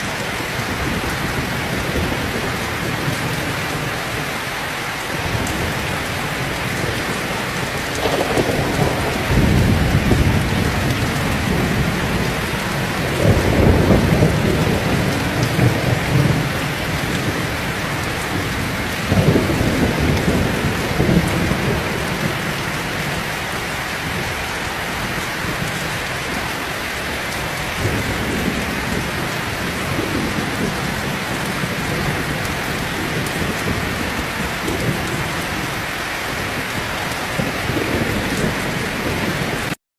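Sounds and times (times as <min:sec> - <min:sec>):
heavy rain falling: 0:00.0 - 0:39.8
thunder rumbling: 0:00.0 - 0:39.8.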